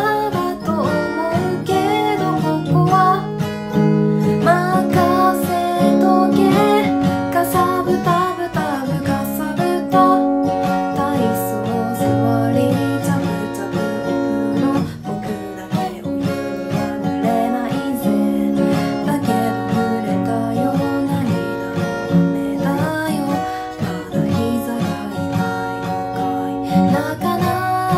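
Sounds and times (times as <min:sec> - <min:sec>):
woman singing softly: 0:00.0 - 0:03.6, 0:04.2 - 0:27.9
acoustic guitar strumming: 0:00.0 - 0:27.9.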